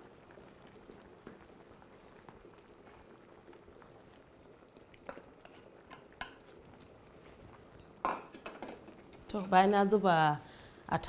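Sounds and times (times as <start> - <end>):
soup bubbling in a pot: 0.0 - 11.0.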